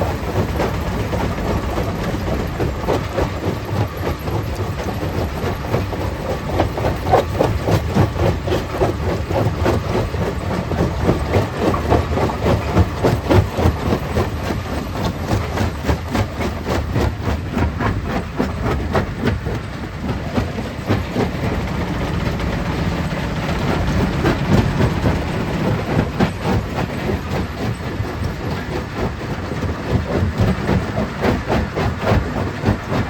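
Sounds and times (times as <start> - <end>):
low machine rumble: 0.0 - 33.0.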